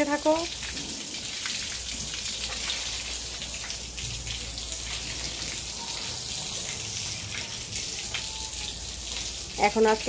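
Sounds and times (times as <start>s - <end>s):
hose water splashing on floor: 0.0s - 10.0s.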